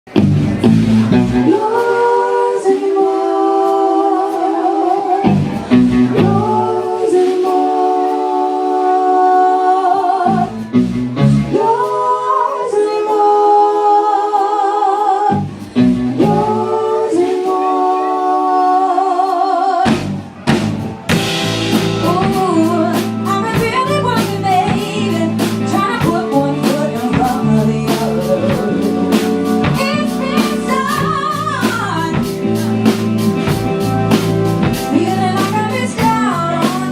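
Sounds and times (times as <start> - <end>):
drums and bass beat: 0.0 - 2.6, 3.6 - 12.0, 15.3 - 17.6, 19.8 - 36.9
live band playing: 0.1 - 36.9
woman singing: 1.3 - 10.8, 11.4 - 20.0, 21.8 - 36.9.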